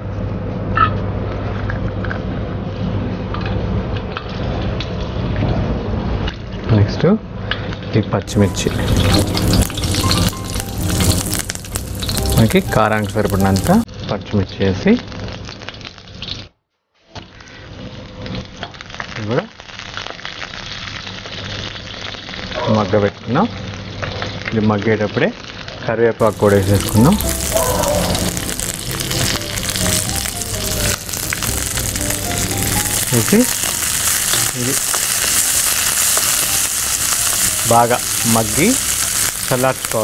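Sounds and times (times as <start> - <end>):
garlic frying in oil: 7.6 - 40.0.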